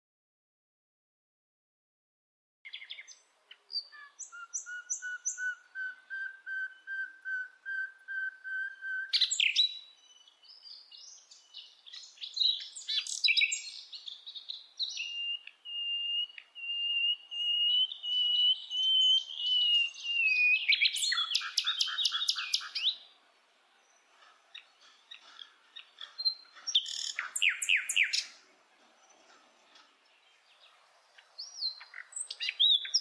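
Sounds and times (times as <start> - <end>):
bird singing: 2.7 - 33.0.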